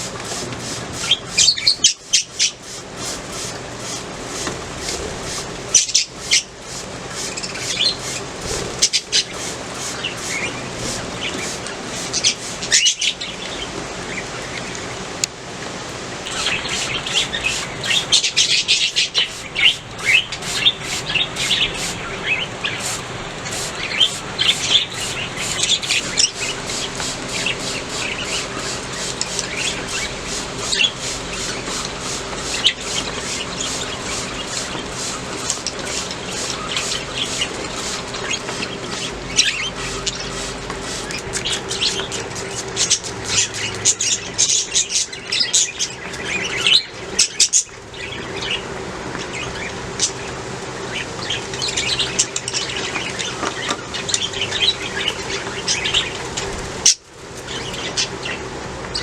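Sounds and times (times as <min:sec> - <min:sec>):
budgerigars chirping and chattering: 0:00.0 - 0:14.2, 0:16.3 - 0:48.6, 0:49.2 - 0:56.2.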